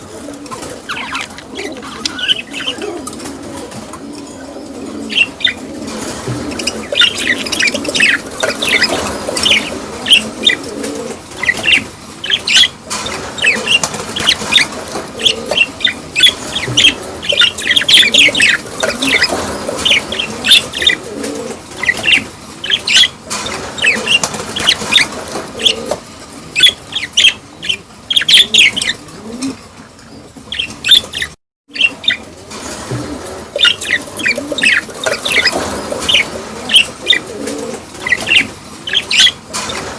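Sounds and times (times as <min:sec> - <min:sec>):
budgerigars chattering and chirping: 0:00.6 - 0:03.2, 0:05.1 - 0:10.7, 0:11.4 - 0:21.1, 0:21.8 - 0:29.1, 0:30.1 - 0:32.3, 0:33.6 - 0:37.3, 0:37.9 - 0:39.9.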